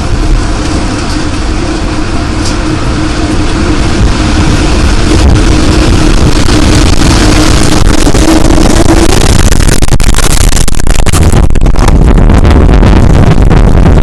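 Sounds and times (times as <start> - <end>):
crackling: 0.0 - 14.0
steady hum: 0.0 - 14.0
violent wind blasting microphone: 0.0 - 14.0.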